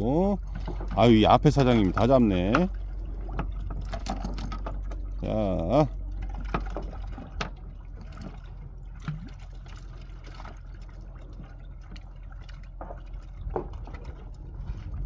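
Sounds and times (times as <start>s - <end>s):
steady low hum: 0.0s - 15.0s
water trickling and splashing: 0.0s - 15.0s.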